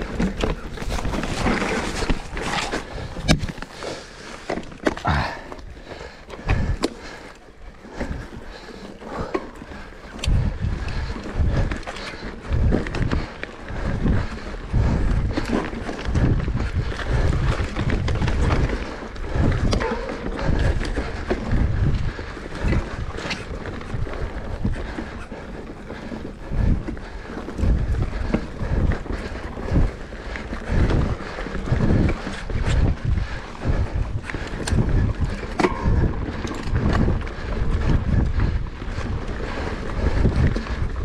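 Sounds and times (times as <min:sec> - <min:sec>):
wind buffeting microphone: 0:05.0 - 0:07.2, 0:07.8 - 0:41.0.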